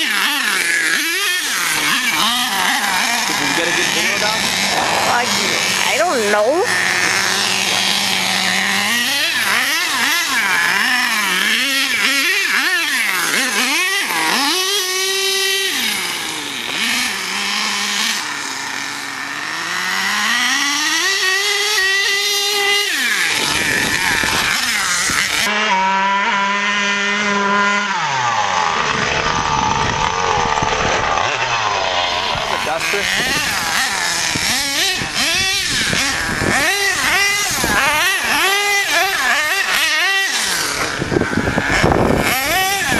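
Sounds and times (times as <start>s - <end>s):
rc truck nitro engine revving: 0.0s - 42.9s.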